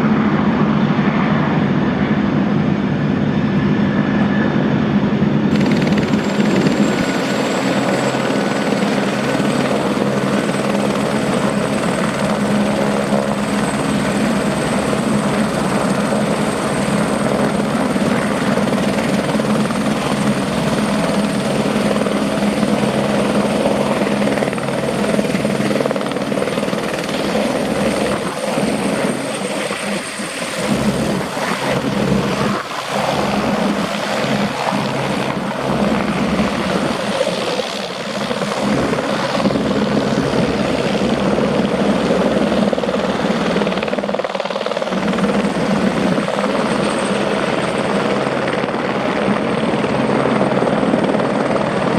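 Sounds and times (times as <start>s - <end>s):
helicopter engine whine: 0.0s - 51.9s
helicopter rotor noise: 0.0s - 51.9s.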